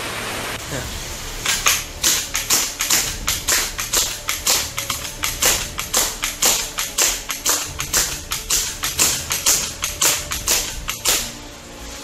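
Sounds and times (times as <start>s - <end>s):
hissy percussion strokes: 0.0s - 12.0s
background music: 0.1s - 12.0s.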